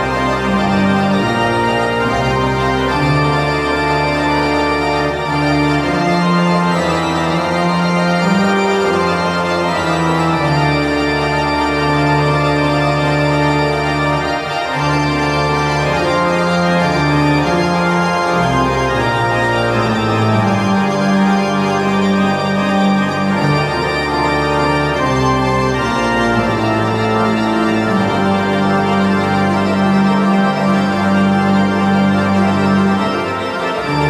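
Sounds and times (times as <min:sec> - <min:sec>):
pipe organ chords: 0:00.0 - 0:34.0.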